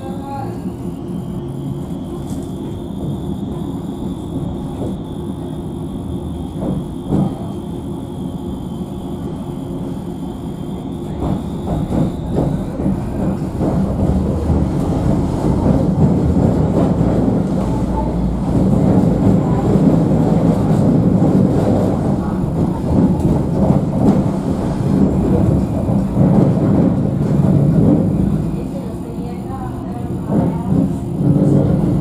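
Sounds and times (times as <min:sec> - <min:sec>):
tram wheels rumbling on rails: 0:00.0 - 0:32.0.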